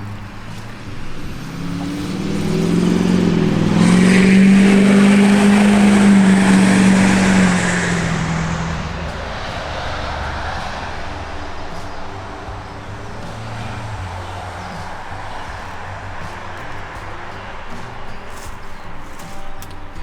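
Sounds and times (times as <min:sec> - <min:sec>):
vehicle engine passing by: 0:00.0 - 0:20.0.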